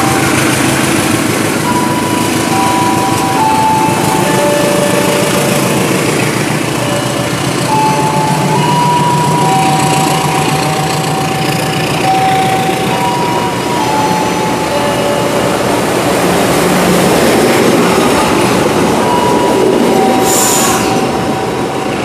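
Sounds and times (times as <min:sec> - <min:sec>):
high steady tones: 0:00.0 - 0:22.0
train wheels rumbling: 0:00.0 - 0:22.0.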